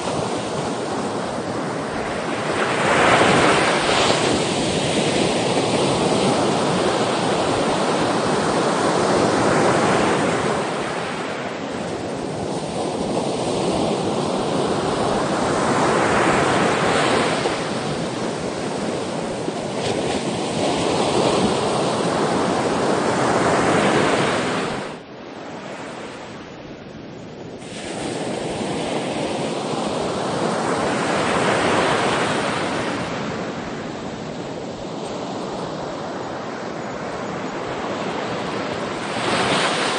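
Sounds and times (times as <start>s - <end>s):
sea waves surging and washing: 0.0s - 39.9s.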